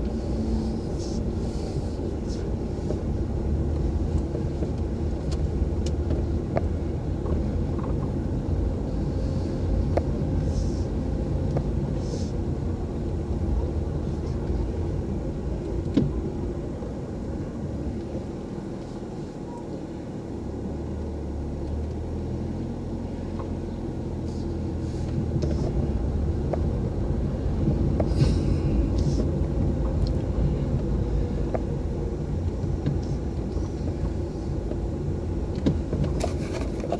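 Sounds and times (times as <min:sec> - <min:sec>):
car engine and road rumble: 0:00.0 - 0:36.9.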